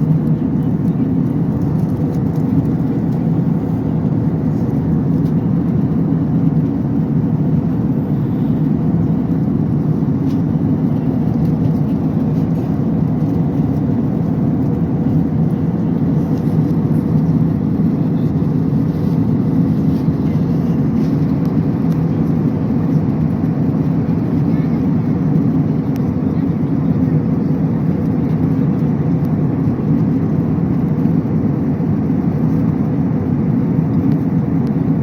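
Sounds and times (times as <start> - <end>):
airliner cabin engine rush: 0.0 - 35.0.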